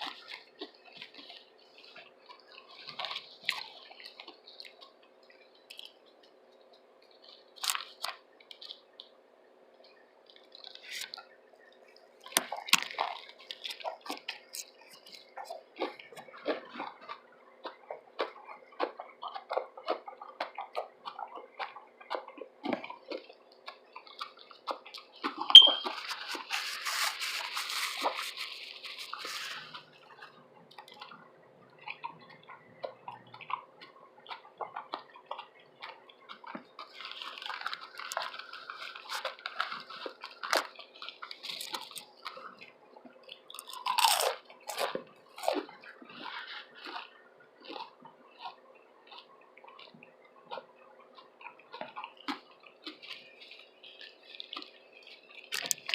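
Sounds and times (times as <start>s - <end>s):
wet chewing mouth clicks: 0.0s - 6.2s, 12.2s - 55.9s.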